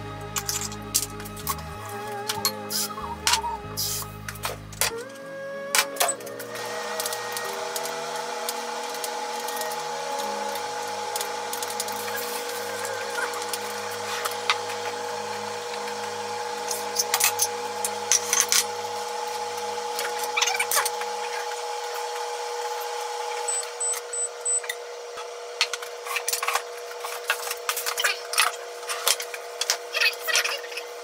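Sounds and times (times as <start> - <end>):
steady hum and hiss: 0.0 - 27.9.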